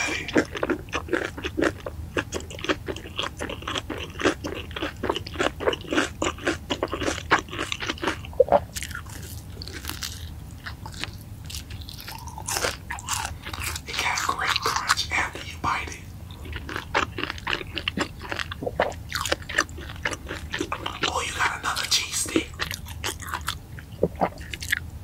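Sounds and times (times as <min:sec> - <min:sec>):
crunching fried chicken: 0:00.0 - 0:24.9.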